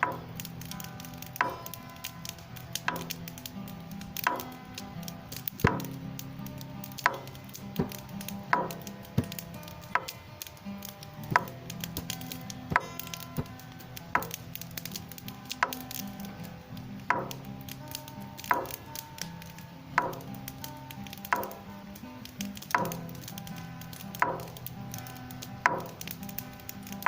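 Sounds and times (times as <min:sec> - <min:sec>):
hand drum beat: 0:00.0 - 0:03.4, 0:04.2 - 0:10.3, 0:11.0 - 0:21.7, 0:22.4 - 0:27.0
campfire crackling: 0:00.0 - 0:27.0
guitar notes: 0:00.0 - 0:27.0.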